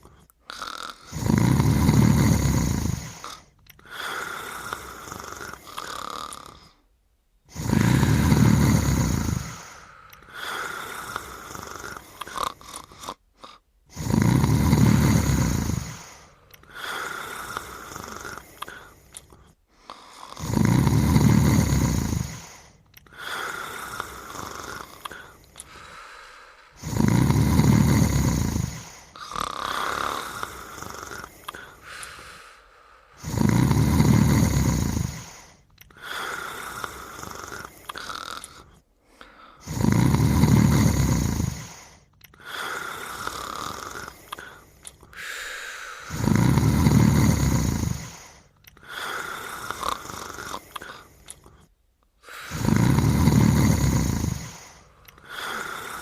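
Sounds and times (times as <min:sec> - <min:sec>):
loud deep cartoon snore: 0:00.0 - 0:32.4, 0:33.0 - 0:51.6, 0:52.2 - 0:56.0.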